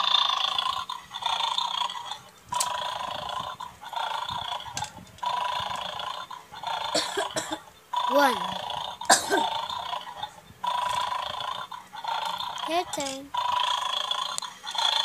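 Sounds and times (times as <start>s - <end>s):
toy dog electronic snoring: 0.0s - 15.0s.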